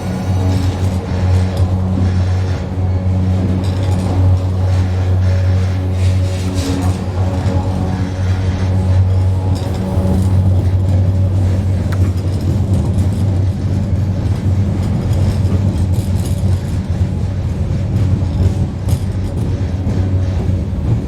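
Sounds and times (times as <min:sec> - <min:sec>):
railway bridge humming: 0:00.0 - 0:21.0
train rumbling on rails: 0:00.0 - 0:21.0.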